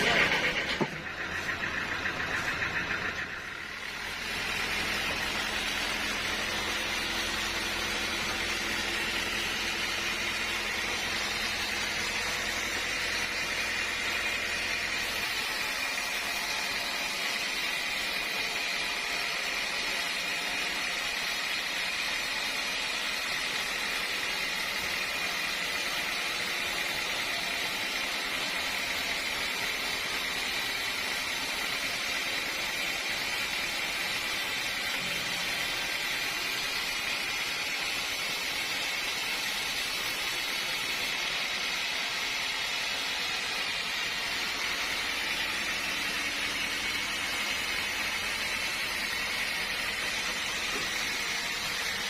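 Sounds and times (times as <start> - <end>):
sawmill machinery whine: 0.0 - 52.0.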